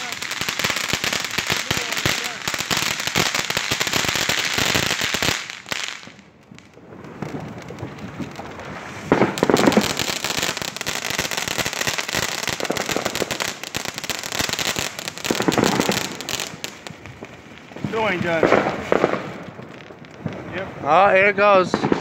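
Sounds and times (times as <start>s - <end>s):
firework fountains crackling: 0.0s - 22.0s.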